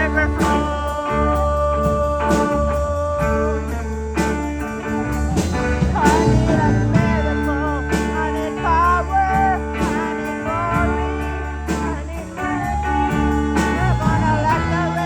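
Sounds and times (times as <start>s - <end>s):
bending melody line: 0.0s - 15.0s
blues guitar: 0.0s - 15.0s
low bass: 0.0s - 15.0s.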